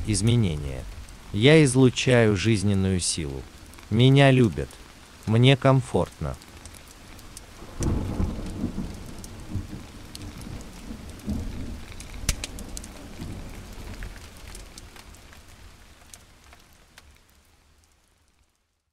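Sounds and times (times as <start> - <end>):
fire crackling and popping: 0.0 - 18.5.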